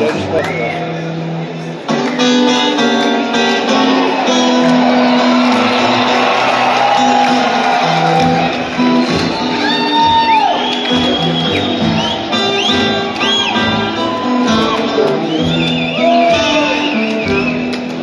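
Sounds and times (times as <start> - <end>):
audience whooping and whistling: 0.3 - 1.0, 3.7 - 18.0
acoustic blues band playing: 1.1 - 18.0.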